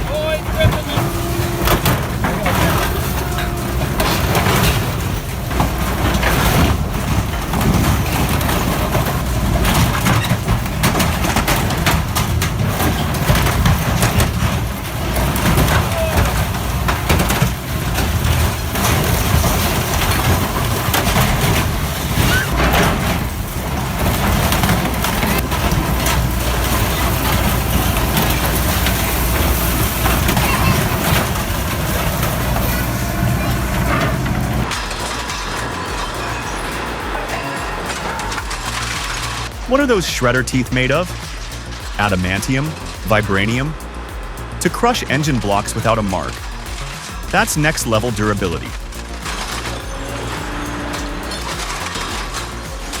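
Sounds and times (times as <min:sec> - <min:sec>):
diesel machine running: 0:00.0 - 0:53.0
scrap metal crunching and clanking: 0:00.0 - 0:53.0.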